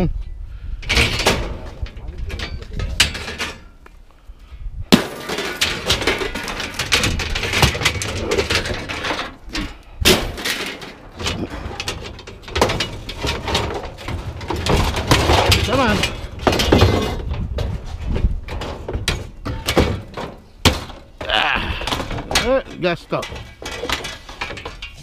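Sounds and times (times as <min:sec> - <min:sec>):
scrap metal clanking and banging: 0:00.8 - 0:03.8, 0:04.9 - 0:25.0.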